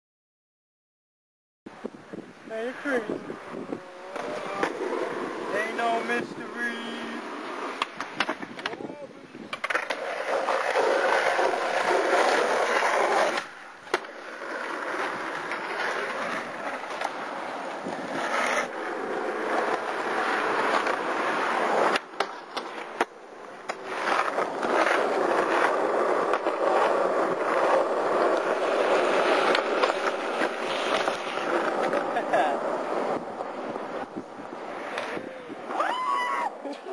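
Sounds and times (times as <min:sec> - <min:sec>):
skateboard wheels rolling on asphalt: 0:01.7 - 0:36.9
skateboard clacks: 0:04.0 - 0:05.6, 0:07.0 - 0:35.9.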